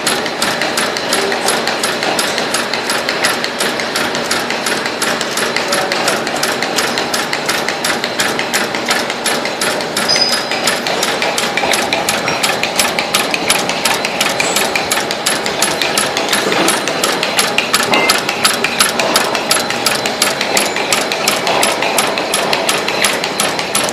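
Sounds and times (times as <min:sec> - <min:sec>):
machine stamping clatter: 0:00.0 - 0:23.9
steady mechanical whir: 0:00.0 - 0:23.9.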